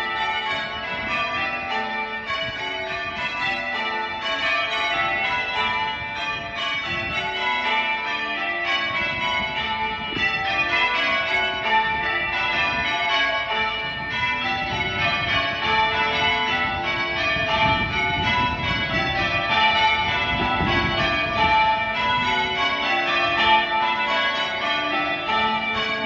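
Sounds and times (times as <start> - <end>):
church bells ringing changes: 0.0 - 26.0.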